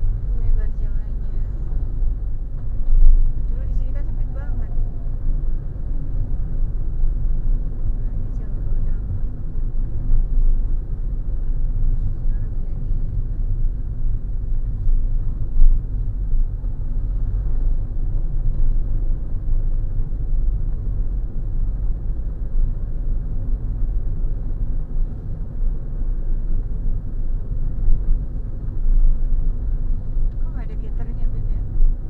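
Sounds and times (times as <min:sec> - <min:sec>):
car interior road rumble: 0:00.0 - 0:32.0.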